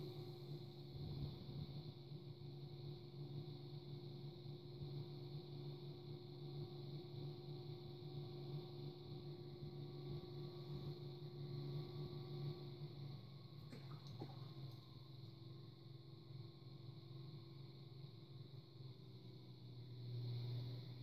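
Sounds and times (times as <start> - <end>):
potter's wheel humming: 0.0 - 21.0.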